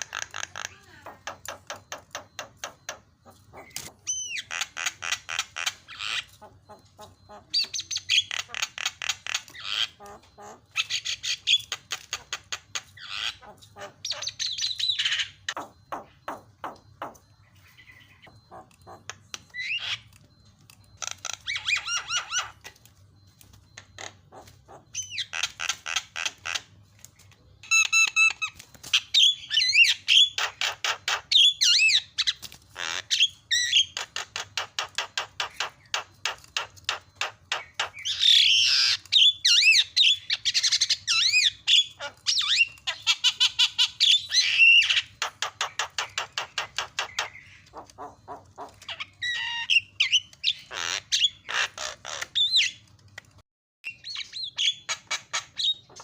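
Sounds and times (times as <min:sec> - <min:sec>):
bird harsh chattering: 0:00.0 - 0:20.1, 0:27.6 - 0:52.9.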